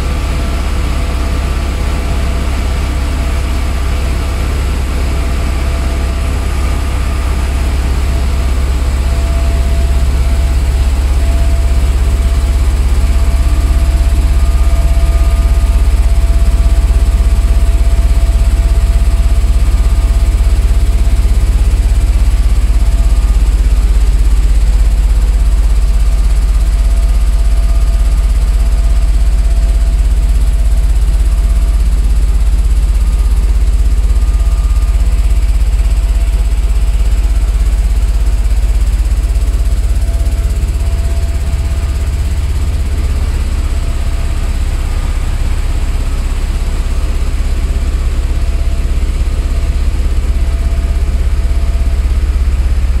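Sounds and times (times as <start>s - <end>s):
vibrating screens rumbling: 0.0s - 53.0s.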